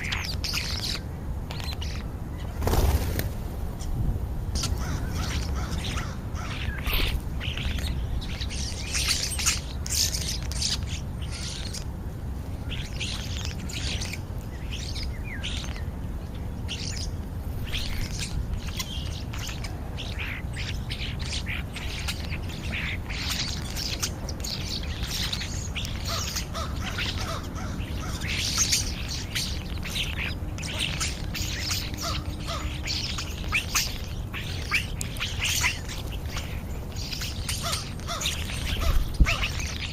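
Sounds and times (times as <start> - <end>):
starlings chattering and squawking: 0.0 - 39.9
steady low rumble: 0.0 - 39.9.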